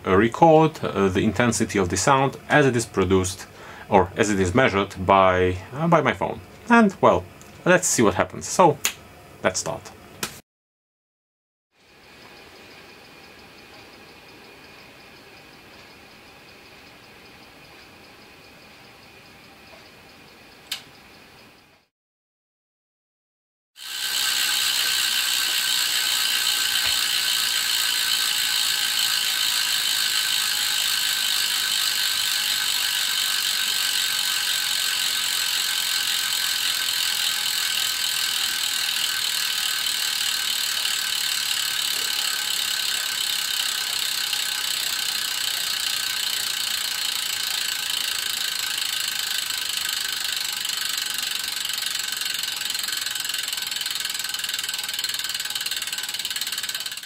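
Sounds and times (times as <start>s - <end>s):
bicycle hub ratchet clicking buzz: 0.0s - 6.1s, 11.8s - 21.9s, 23.8s - 57.0s.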